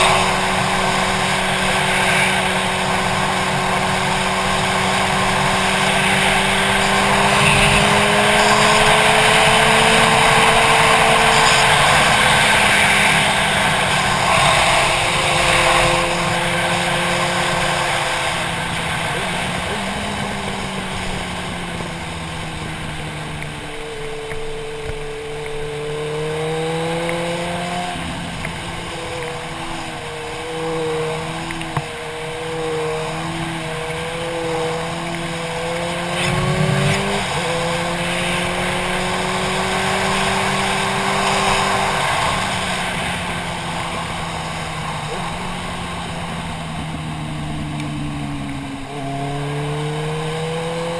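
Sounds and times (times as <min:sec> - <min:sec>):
motorcycle engine running: 0:00.0 - 0:50.9
wind rush on microphone: 0:00.0 - 0:50.9.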